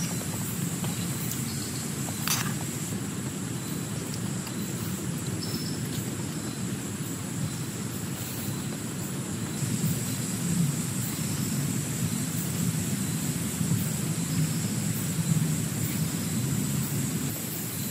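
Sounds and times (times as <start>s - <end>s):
heavy rain on a tent: 0.0s - 17.9s.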